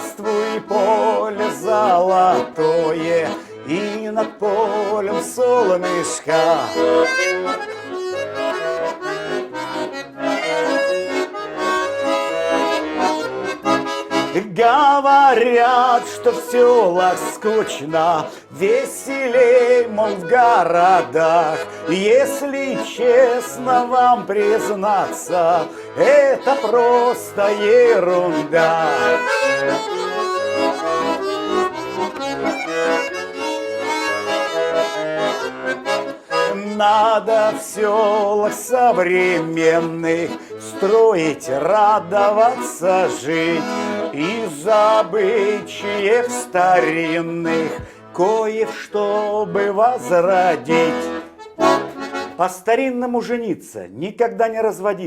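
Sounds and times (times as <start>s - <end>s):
accordion folk melody: 0.0s - 55.0s.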